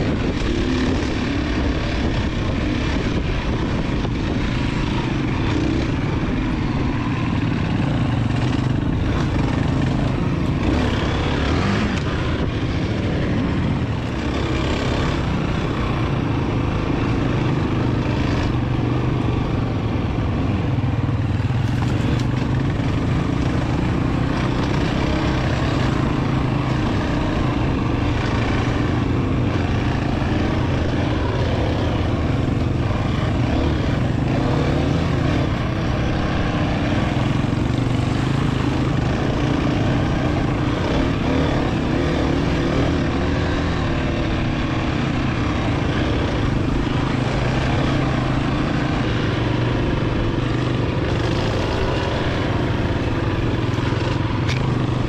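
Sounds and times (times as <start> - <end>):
dirt bike engine running: 0.0 - 55.0
steady rushing noise: 0.0 - 55.0.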